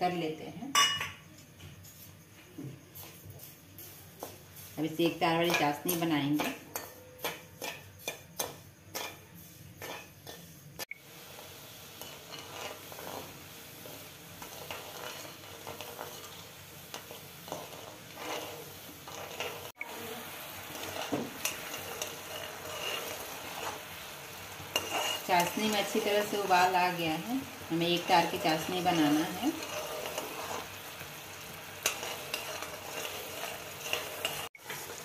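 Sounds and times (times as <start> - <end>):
syrup sizzling and bubbling: 2.9 - 35.0
metal spoon scraping a pan: 3.8 - 35.0.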